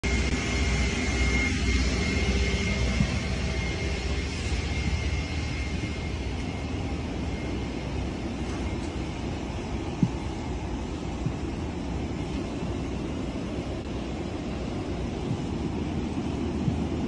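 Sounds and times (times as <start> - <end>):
airliner cabin rumble and hiss: 0.0 - 17.0
thin high whine: 0.0 - 17.0.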